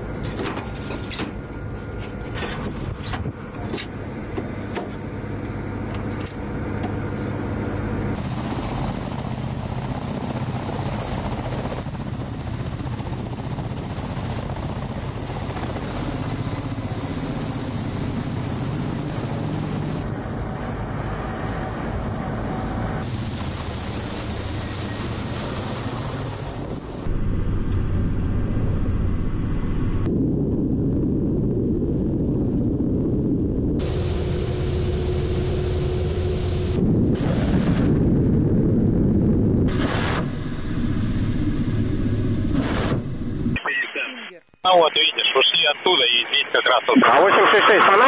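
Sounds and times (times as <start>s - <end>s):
helicopter engine drone: 0.0s - 43.6s.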